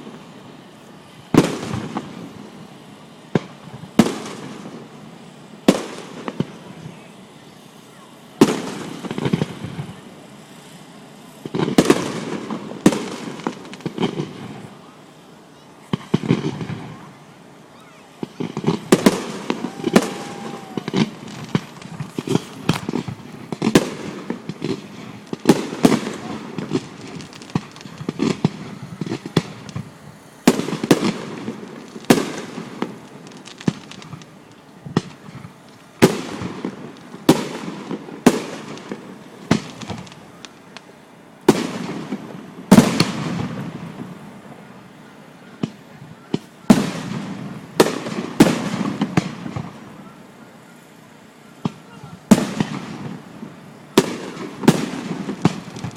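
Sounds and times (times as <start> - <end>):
fireworks bursting: 0.0 - 55.9.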